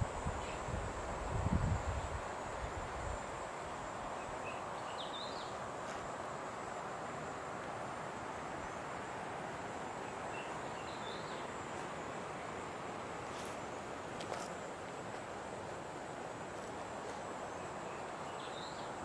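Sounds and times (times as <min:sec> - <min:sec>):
constant hiss: 0:00.0 - 0:19.0
high insect whine: 0:00.0 - 0:19.0.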